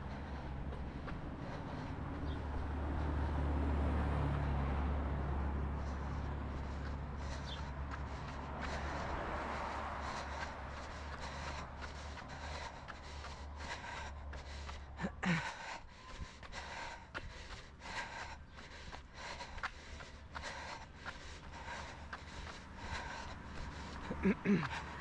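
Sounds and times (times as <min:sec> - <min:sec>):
passing car rumble: 0:00.0 - 0:15.6, 0:16.6 - 0:25.0
hard breathing: 0:00.0 - 0:25.0.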